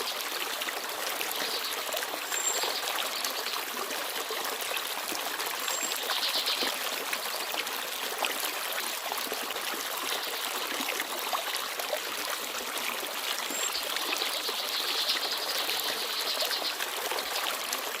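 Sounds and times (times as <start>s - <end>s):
stream babbling and trickling: 0.0s - 18.0s.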